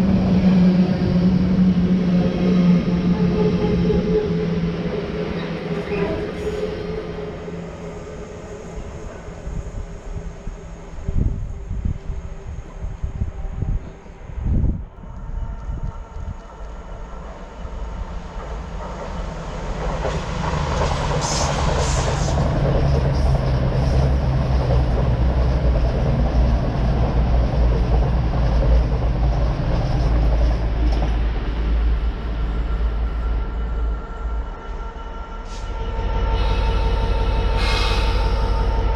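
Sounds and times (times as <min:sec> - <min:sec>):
diesel locomotive engine: 0:00.0 - 0:38.9.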